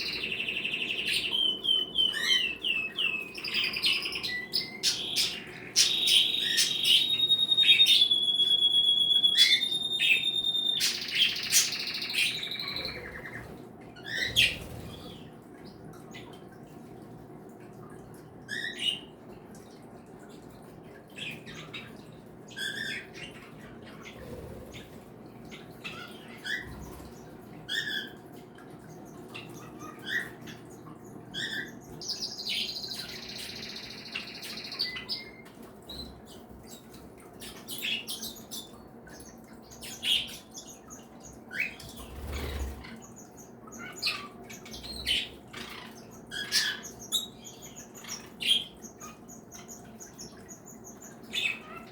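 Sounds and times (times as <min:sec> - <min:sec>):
cage birds chirping: 0:00.0 - 0:51.9.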